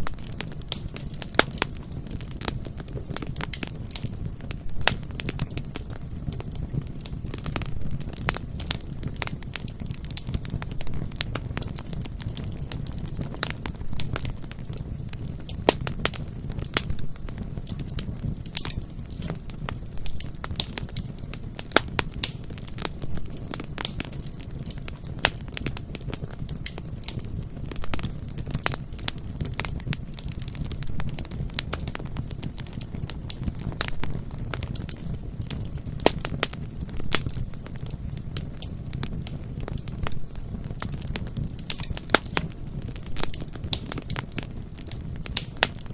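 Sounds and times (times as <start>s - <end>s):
fire crackling and popping: 0.0s - 45.9s
low rumble of flames: 0.0s - 45.9s.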